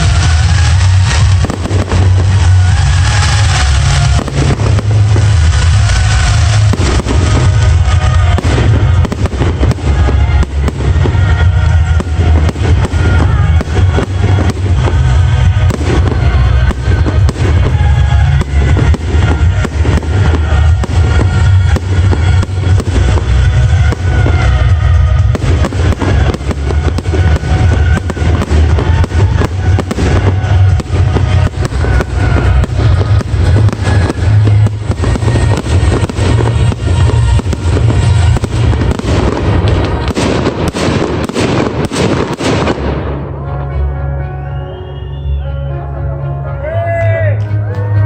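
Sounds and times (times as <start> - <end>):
fireworks bangs and crackling: 0.0 - 44.0
loud music with heavy bass: 0.0 - 44.2.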